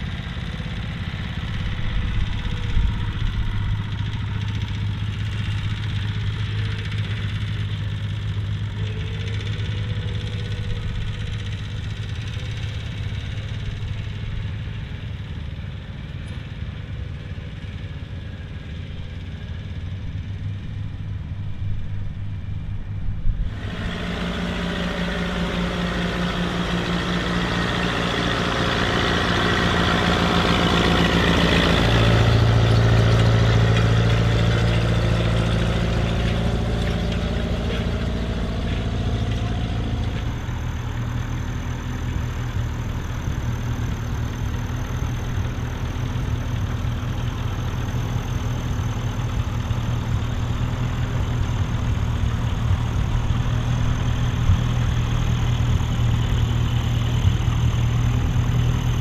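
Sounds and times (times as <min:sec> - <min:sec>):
tractor engines running under load: 0:00.0 - 0:59.0.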